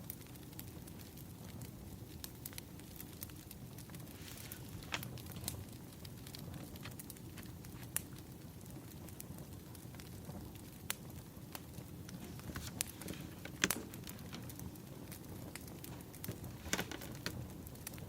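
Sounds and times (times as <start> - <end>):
burning firewood crackling: 0.0 - 18.0.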